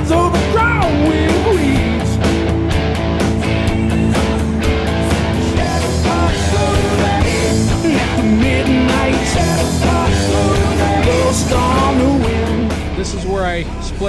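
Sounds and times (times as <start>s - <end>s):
rock song with guitar: 0.0s - 13.9s.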